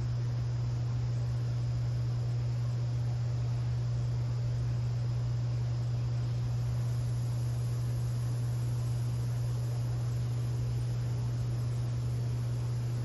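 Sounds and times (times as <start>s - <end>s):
even hiss: 0.0s - 13.0s
high insect trill: 0.0s - 13.0s
low hum: 0.0s - 13.0s.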